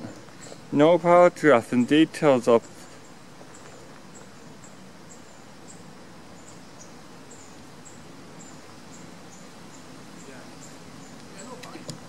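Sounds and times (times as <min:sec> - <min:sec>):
open-air background hiss: 0:00.0 - 0:12.0.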